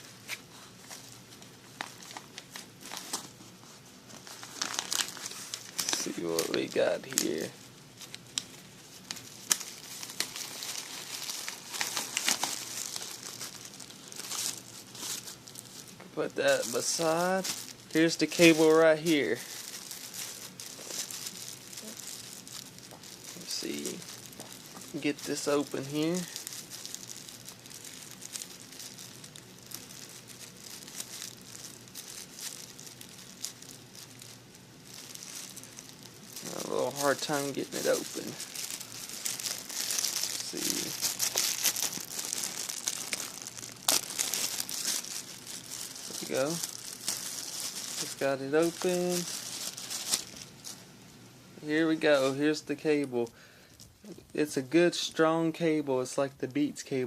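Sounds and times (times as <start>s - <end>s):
packaging crinkling by hand: 0.0s - 51.0s, 51.6s - 57.0s.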